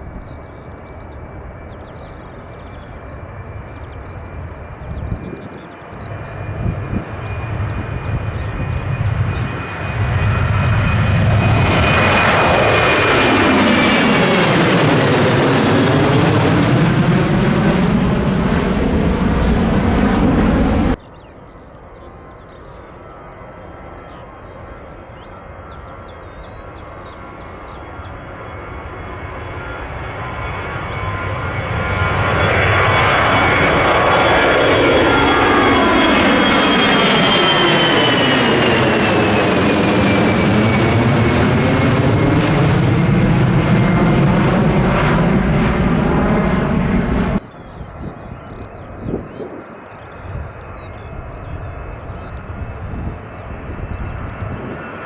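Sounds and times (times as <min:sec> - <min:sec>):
jet engines on takeoff run: 0:00.0 - 0:55.0
jet engines passing at takeoff power: 0:00.0 - 0:55.0.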